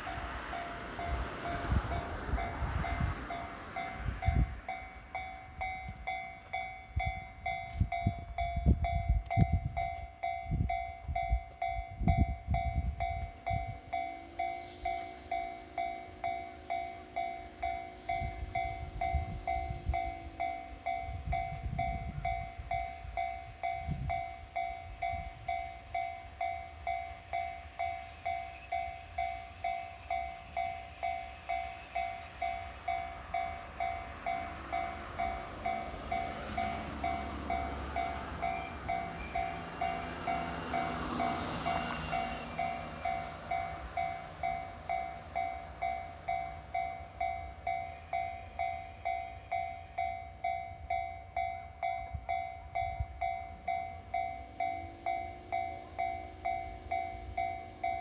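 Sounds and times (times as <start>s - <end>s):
level-crossing warning bell: 0.0s - 58.0s
train rumbling on rails: 0.0s - 58.0s.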